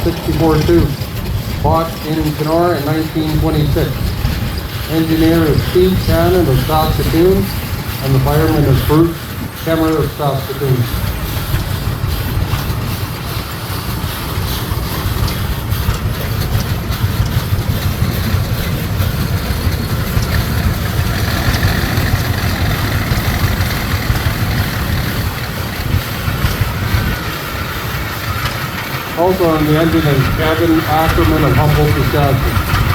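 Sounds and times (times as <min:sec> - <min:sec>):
steam traction engine running: 0:00.0 - 0:32.9.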